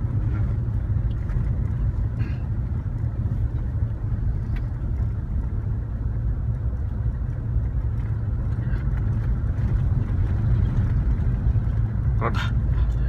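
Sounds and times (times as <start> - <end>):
small vehicle engine rumbling: 0.0 - 13.0.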